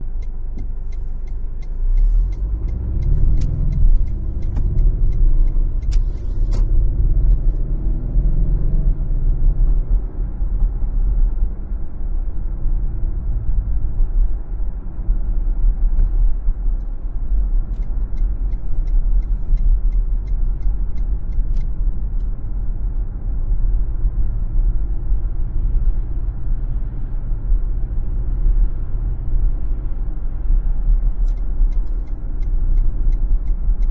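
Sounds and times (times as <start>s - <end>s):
car engine accelerating: 0.0s - 33.9s
road and tyre rumble: 0.0s - 33.9s.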